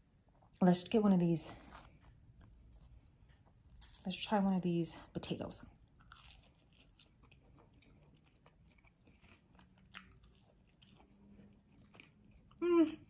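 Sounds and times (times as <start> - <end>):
chewing crunchy fried potato: 0.0 - 4.4, 5.7 - 13.0.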